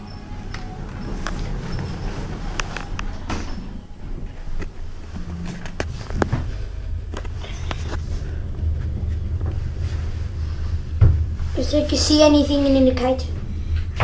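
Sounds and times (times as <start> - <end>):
lift car rumbling: 0.0 - 14.0.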